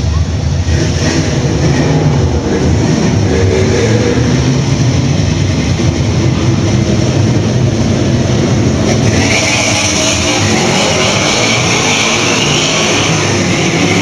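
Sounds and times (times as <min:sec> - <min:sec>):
race car engines rumbling: 0:00.0 - 0:14.0.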